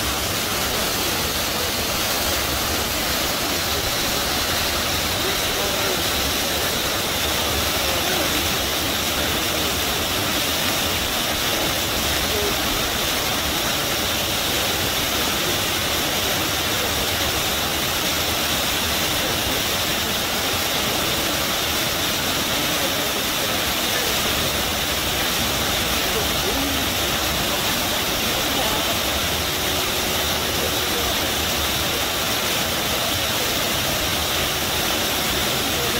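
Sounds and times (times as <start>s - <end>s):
rushing river water: 0.0s - 35.9s.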